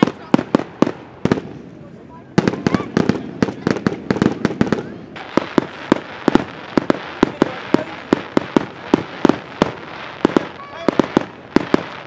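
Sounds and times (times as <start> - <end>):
crackling hiss of fireworks: 0.0 - 12.0
firework bangs: 0.0 - 12.0.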